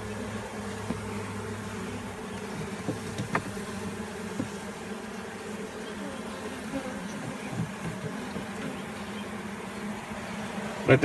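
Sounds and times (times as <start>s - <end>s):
honeybees humming: 0.0s - 11.0s.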